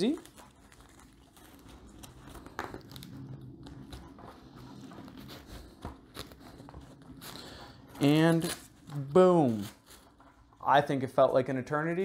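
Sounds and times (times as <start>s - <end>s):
nylon straps rustling: 0.0s - 11.0s.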